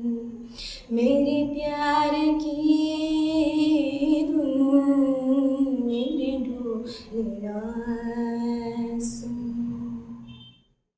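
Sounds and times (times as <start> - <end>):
woman singing unaccompanied: 0.0 - 10.3.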